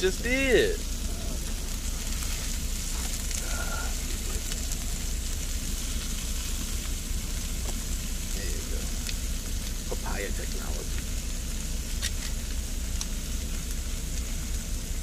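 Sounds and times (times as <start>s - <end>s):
sausage sizzling in a frying pan: 0.0s - 15.0s
steady low hum: 0.0s - 15.0s.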